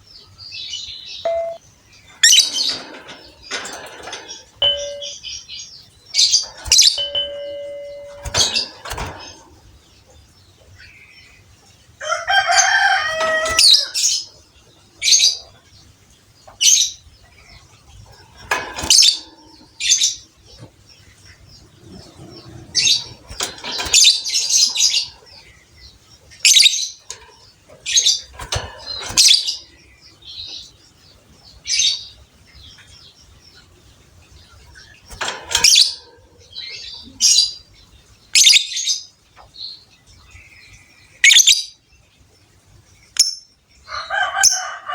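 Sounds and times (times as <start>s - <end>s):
lovebirds chirping and shrieking: 0.0s - 44.9s.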